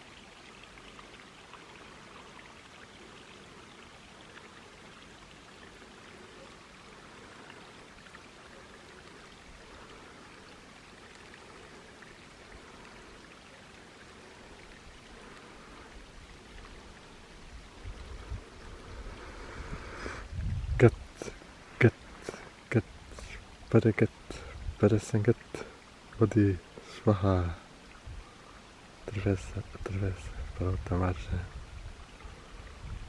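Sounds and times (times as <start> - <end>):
running water splashing: 0.0 - 32.9.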